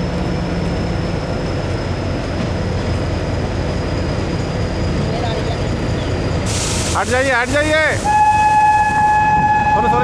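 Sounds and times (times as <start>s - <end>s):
train carriage rumbling: 0.0s - 10.0s.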